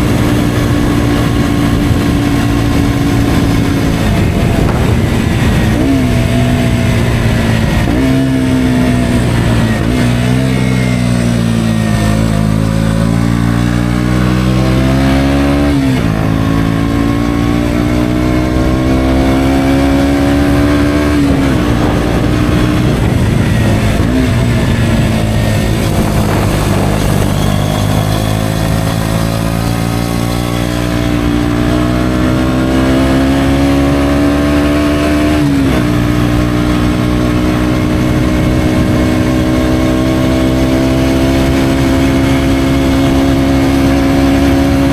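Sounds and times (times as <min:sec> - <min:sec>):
motorcycle engine under way: 0:00.0 - 0:44.9.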